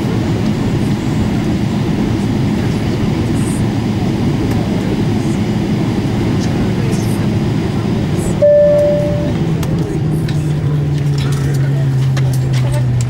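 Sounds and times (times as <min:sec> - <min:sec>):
aircraft cabin rumble: 0:00.0 - 0:13.0.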